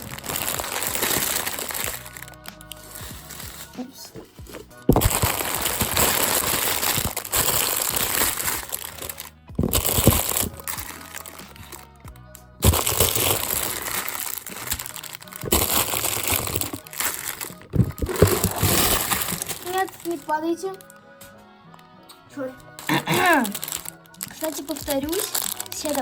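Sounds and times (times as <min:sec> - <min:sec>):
plastic packets crinkling and clattering: 0:00.0 - 0:11.9, 0:12.6 - 0:21.0, 0:22.7 - 0:26.0
background music: 0:00.0 - 0:26.0.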